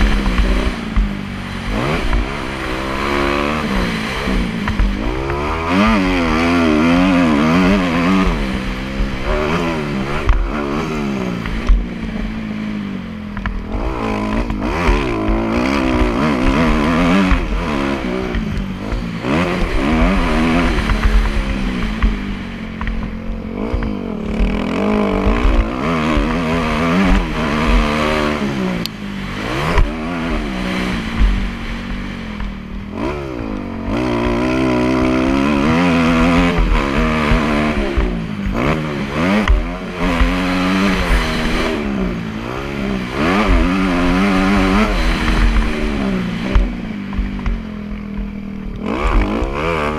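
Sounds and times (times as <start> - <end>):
motocross bike engine revving: 0.0 - 49.9.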